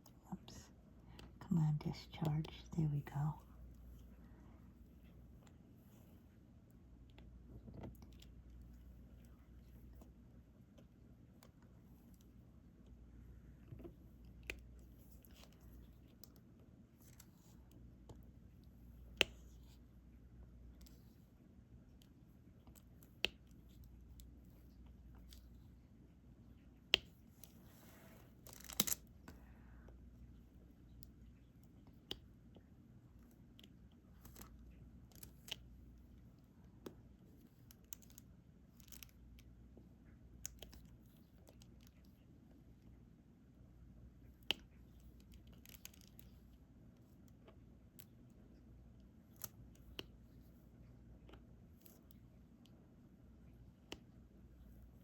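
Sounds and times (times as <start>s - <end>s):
low room hum: 0.0s - 55.0s.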